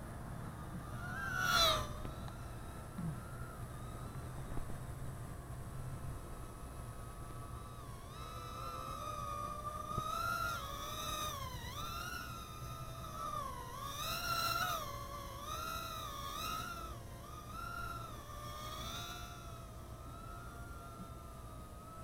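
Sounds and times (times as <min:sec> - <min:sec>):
small drone motors whining: 0:00.0 - 0:22.0.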